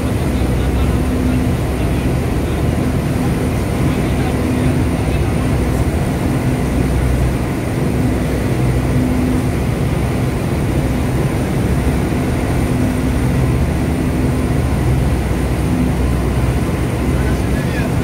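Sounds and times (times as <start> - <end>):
speedboat engine running: 0.0 - 18.0
water churning: 0.0 - 18.0.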